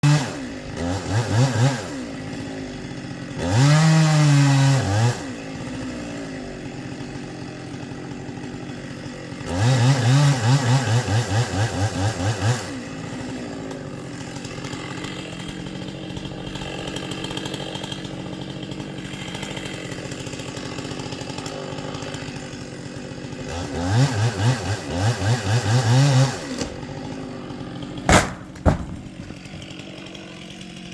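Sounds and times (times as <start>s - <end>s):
chainsaw engine idling and revving: 0.0s - 30.9s.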